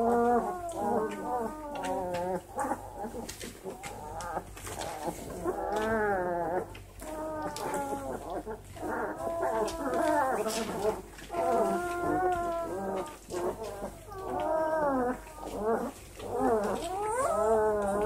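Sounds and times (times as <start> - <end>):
puppies whining and squealing: 0.0 - 18.0.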